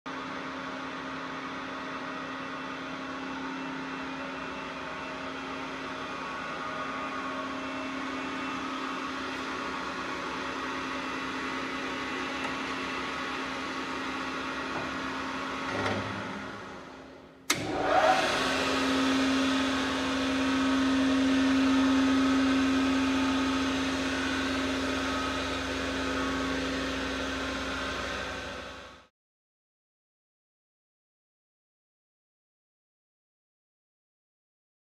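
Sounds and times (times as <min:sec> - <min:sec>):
pillar drill motor whirring hum: 0:00.2 - 0:29.0.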